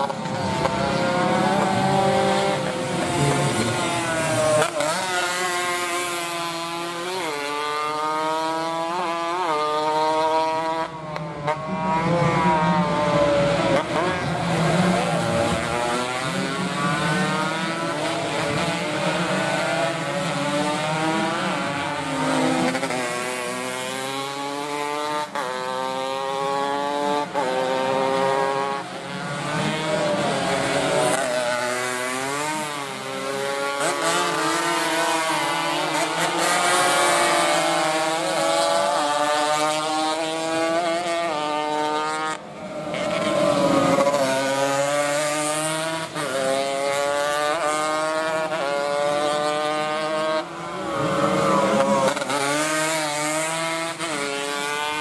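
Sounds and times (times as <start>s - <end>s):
racing motorcycles revving past: 0.0s - 55.0s.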